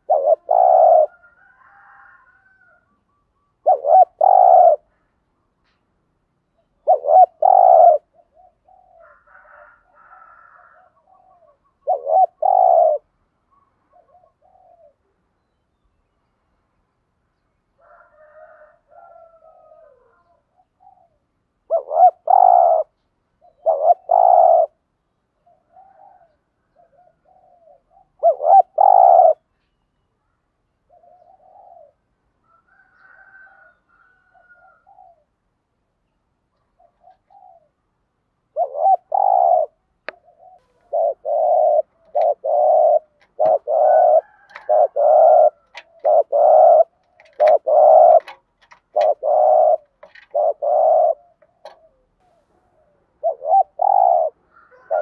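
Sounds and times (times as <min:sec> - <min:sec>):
dove cooing: 0:00.0 - 0:05.0, 0:06.6 - 0:13.2, 0:13.9 - 0:15.2, 0:17.8 - 0:24.8, 0:25.4 - 0:29.5, 0:30.9 - 0:35.3, 0:36.6 - 0:37.8, 0:38.5 - 0:55.0.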